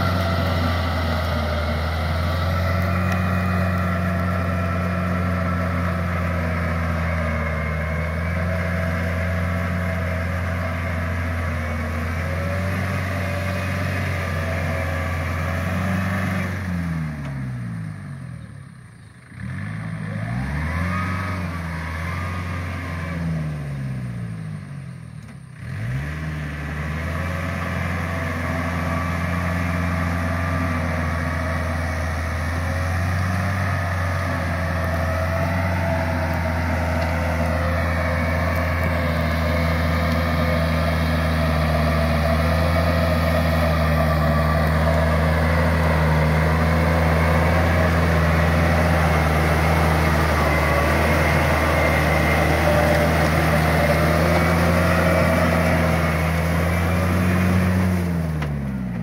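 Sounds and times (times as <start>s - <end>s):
diesel tractor running: 0.0s - 59.0s.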